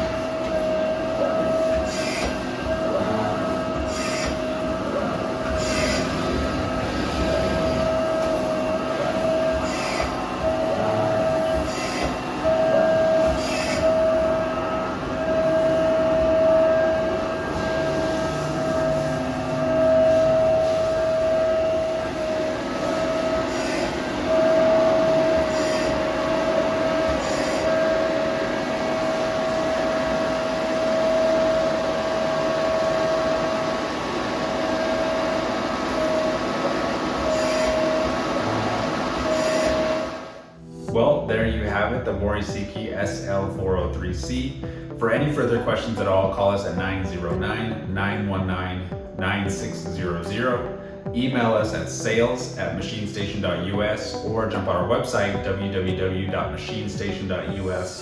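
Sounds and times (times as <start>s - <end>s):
machine hum with high whine: 0.0s - 58.0s.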